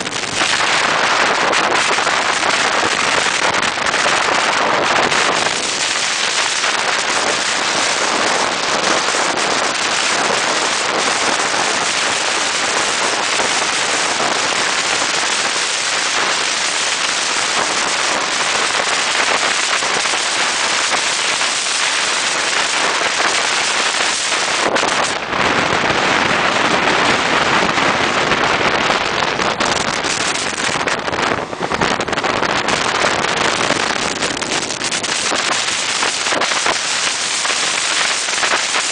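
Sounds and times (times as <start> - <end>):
wind on the microphone: 0.0 - 38.9.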